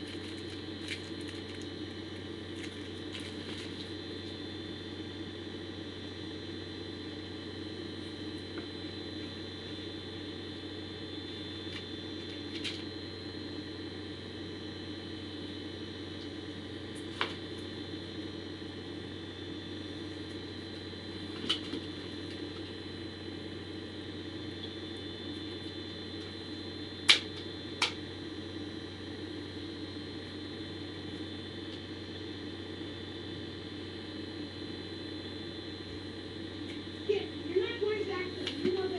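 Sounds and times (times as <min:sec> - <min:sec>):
microphone hiss and hum: 0:00.0 - 0:38.9.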